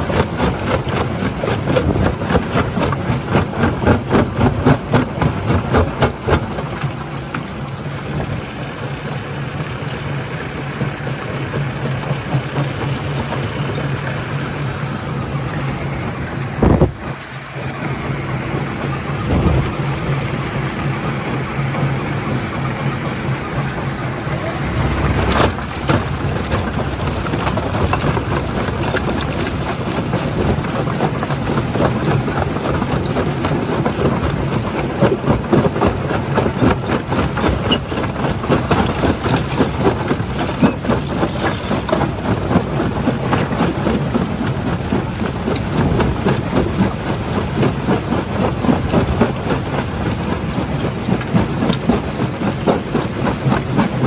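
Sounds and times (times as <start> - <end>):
crusher machinery hum: 0.0 - 54.0.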